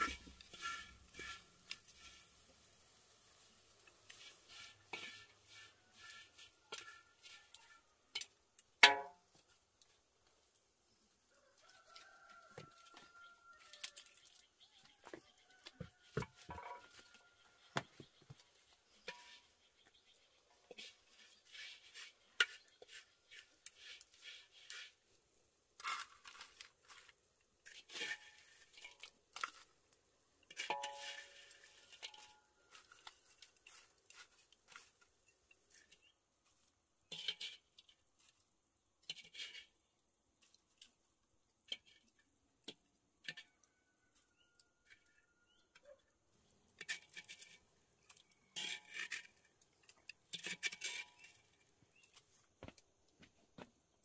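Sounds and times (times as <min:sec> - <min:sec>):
chopsticks tapping and scraping wok: 0:00.0 - 0:11.0, 0:11.8 - 0:25.2, 0:25.8 - 0:46.0, 0:46.7 - 0:53.3.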